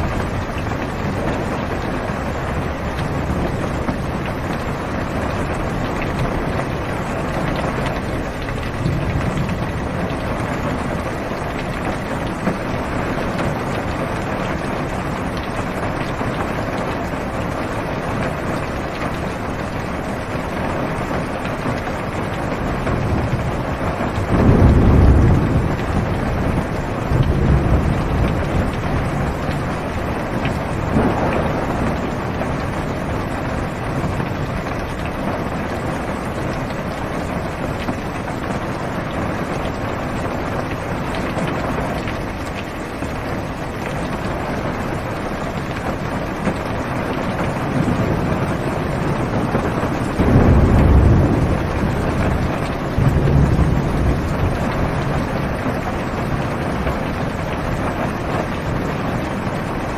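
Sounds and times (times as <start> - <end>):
thunder rolling: 0.0 - 19.0, 22.6 - 42.0, 45.8 - 58.8
heavy rain on car roof: 0.0 - 59.9.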